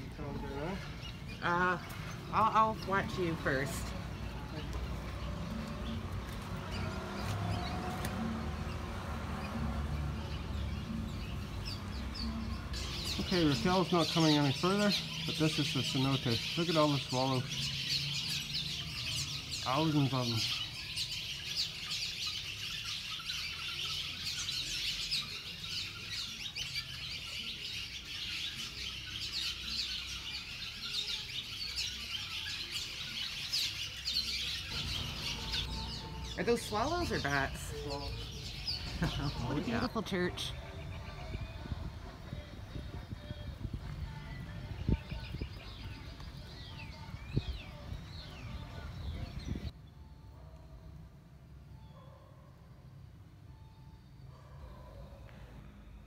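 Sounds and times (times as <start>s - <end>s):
swallows chirping: 0.0s - 49.7s.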